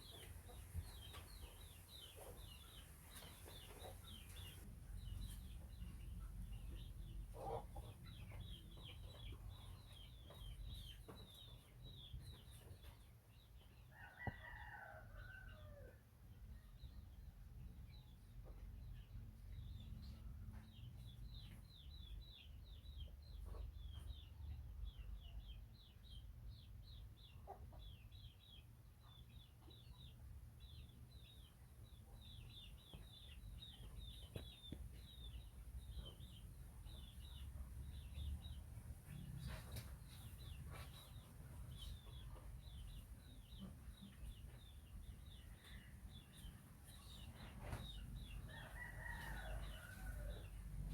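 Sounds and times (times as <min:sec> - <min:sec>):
chickens peeping: 0:00.0 - 0:14.7, 0:16.8 - 0:50.9.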